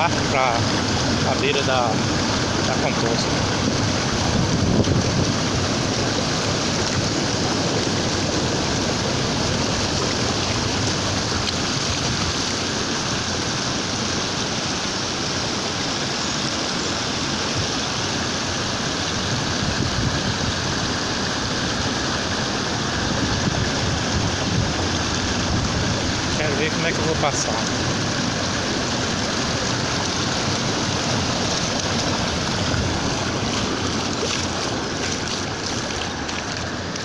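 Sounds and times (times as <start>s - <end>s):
water rushing over road: 0.0s - 37.0s.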